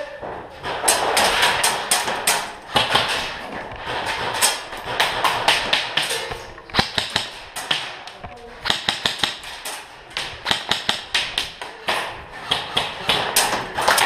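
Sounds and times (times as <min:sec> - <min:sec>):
airsoft gunfire: 0:00.6 - 0:14.0
pellets striking plywood: 0:00.6 - 0:14.0.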